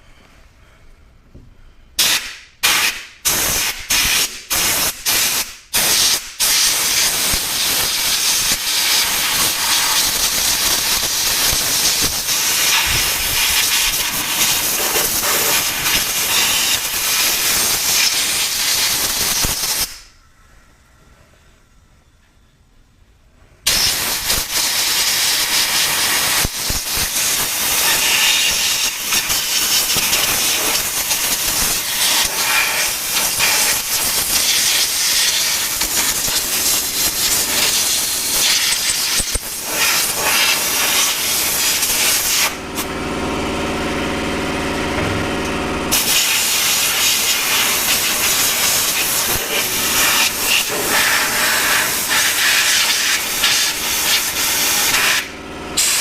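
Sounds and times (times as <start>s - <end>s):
compressed air hissing: 2.0s - 20.1s, 23.7s - 42.6s, 45.9s - 56.0s.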